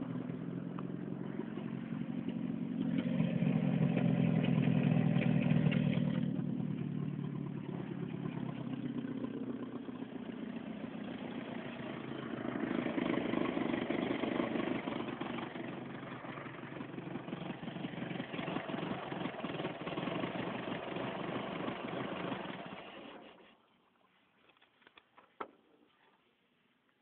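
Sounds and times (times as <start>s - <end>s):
car engine pulsing exhaust: 0.0s - 23.3s.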